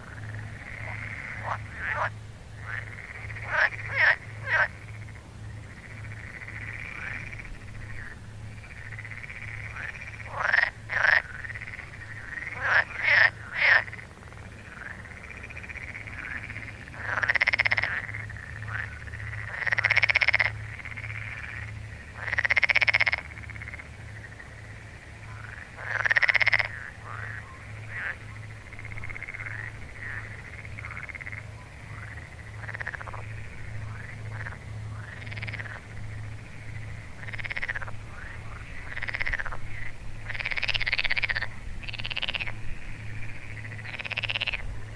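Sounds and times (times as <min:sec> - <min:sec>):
faint low pulsing: 0:00.0 - 0:44.9
frogs croaking: 0:00.0 - 0:44.9.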